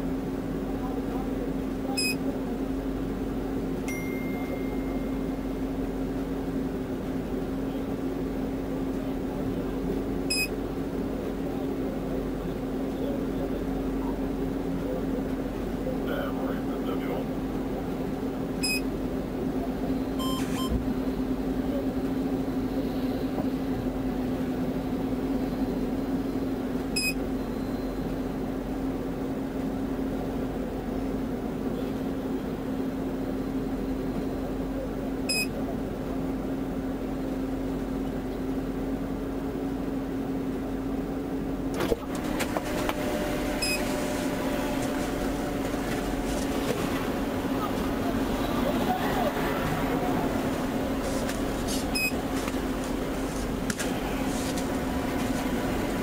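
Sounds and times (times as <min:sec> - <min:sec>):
car cabin mechanical hum: 0:00.0 - 0:56.0.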